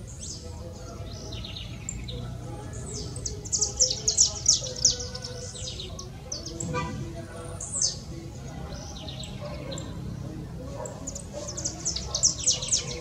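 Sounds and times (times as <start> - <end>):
finch singing: 0.0 - 13.0.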